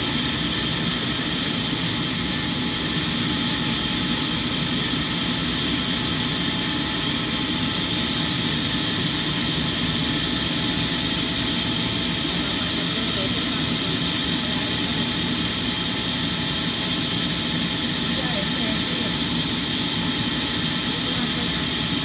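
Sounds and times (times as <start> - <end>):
sawmill machinery drone: 0.0 - 22.0.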